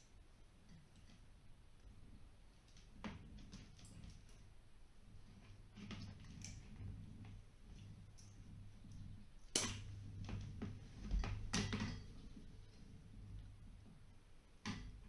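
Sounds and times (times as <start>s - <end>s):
handling noises of wiring work: 0.0s - 15.0s.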